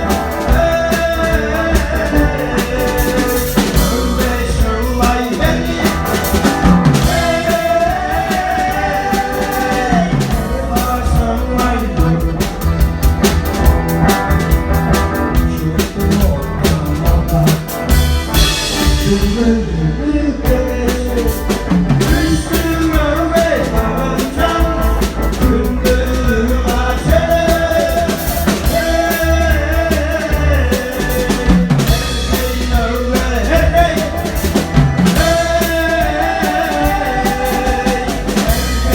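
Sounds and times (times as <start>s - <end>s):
person singing: 0.0s - 13.8s, 14.9s - 38.9s
drum kit beat: 0.0s - 19.7s, 20.4s - 38.9s.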